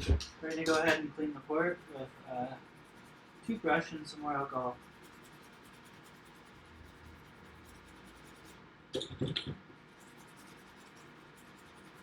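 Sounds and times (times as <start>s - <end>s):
toothbrush scrubbing: 0.7s - 8.6s, 9.8s - 12.0s.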